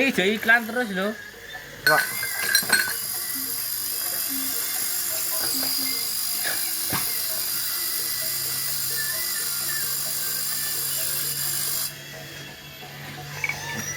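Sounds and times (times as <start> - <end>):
power tool high whine: 0.0 - 13.9.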